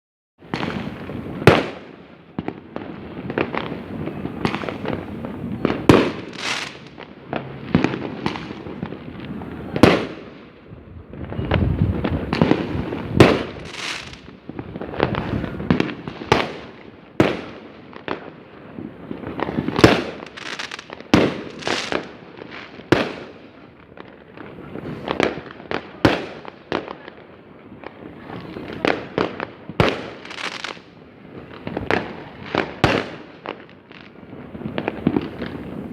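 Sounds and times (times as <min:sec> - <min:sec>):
crackle of firecrackers: 0:00.4 - 0:35.9
fireworks bangs: 0:00.4 - 0:35.9.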